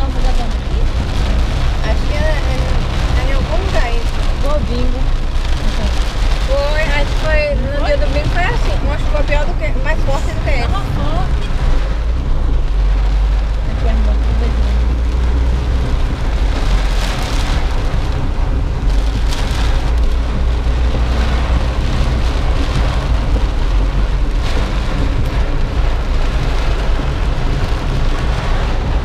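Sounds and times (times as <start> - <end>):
car rumbling on wet road: 0.0 - 29.0
heavy rain on car windshield: 0.0 - 29.0.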